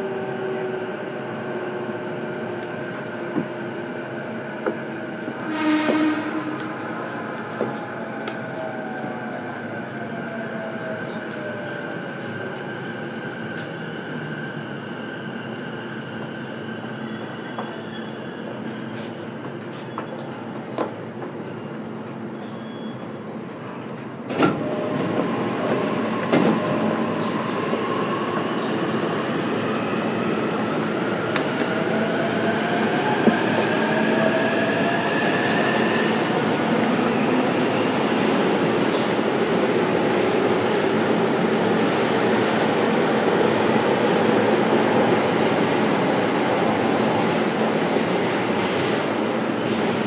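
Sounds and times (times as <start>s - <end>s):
train rail and wheel rumble: 0.0s - 50.0s.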